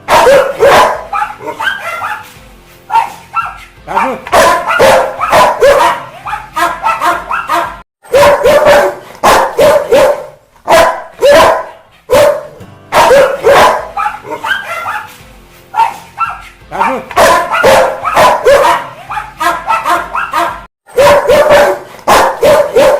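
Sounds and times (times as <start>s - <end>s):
dog barking deeply: 0.0s - 2.2s, 2.9s - 15.1s, 15.8s - 22.9s.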